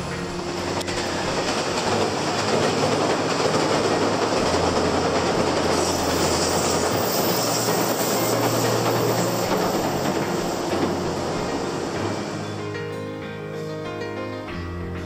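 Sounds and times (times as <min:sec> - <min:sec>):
electric train running on rails: 0:00.0 - 0:15.0.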